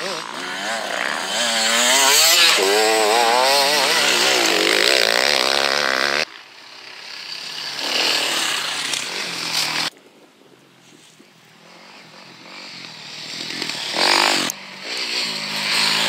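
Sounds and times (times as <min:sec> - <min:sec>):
dirt bike engine revving: 0:00.0 - 0:09.9, 0:11.6 - 0:16.0
distant dirt bike revving: 0:00.0 - 0:09.9, 0:11.5 - 0:16.0.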